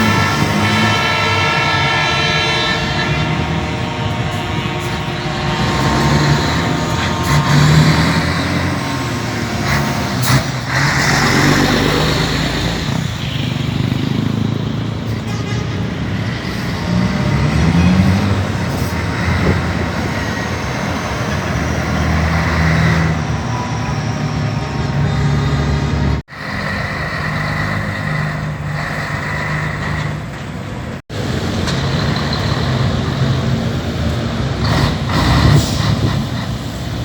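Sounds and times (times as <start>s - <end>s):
truck engine revving: 0.0s - 37.0s
truck engines running: 0.0s - 37.0s.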